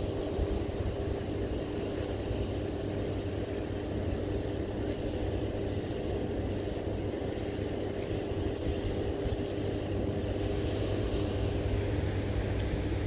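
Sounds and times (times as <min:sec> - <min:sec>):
constant hum: 0:00.0 - 0:13.0
low rumble of rushing water: 0:00.0 - 0:13.0.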